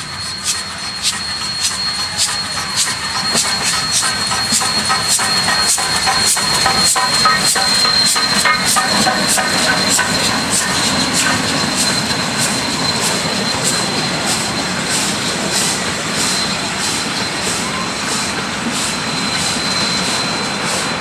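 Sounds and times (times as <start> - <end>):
steam locomotive exhaust beat: 0.0 - 21.0
train carriages rolling on rails: 0.0 - 21.0.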